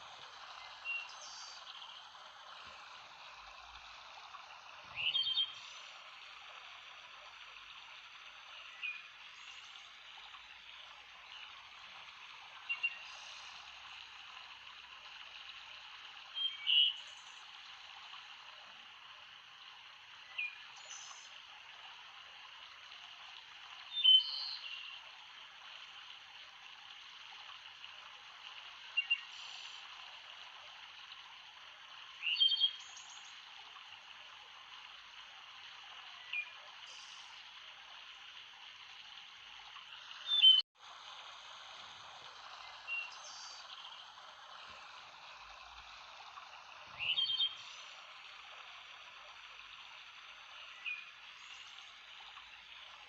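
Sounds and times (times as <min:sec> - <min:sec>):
flowing water hissing: 0:00.0 - 0:53.0.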